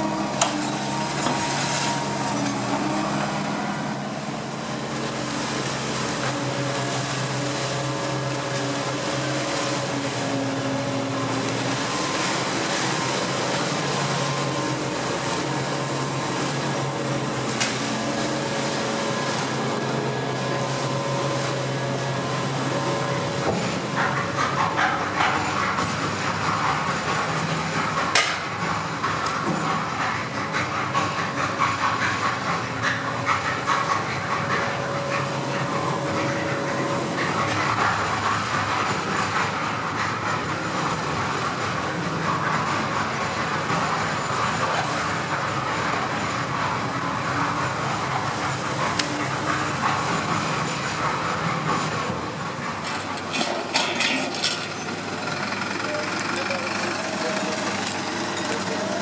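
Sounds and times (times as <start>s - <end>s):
machine drone: 0.0s - 59.0s.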